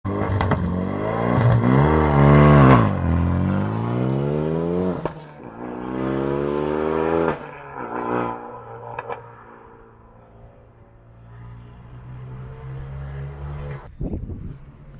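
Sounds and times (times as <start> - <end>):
car engine revving: 0.1 - 13.9.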